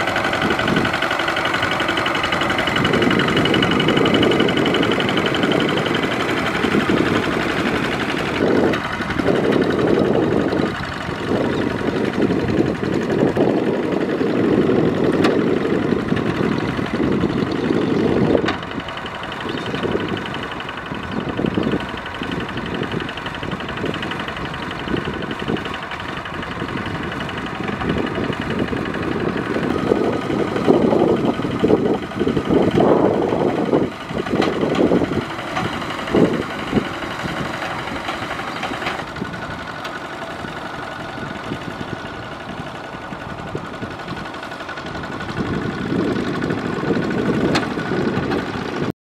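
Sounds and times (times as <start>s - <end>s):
diesel tractor engine running: 0.0s - 49.0s.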